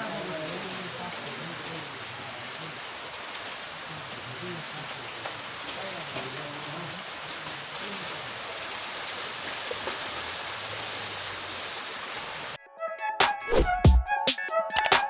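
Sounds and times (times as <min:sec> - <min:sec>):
heavy rain: 0:00.0 - 0:12.6.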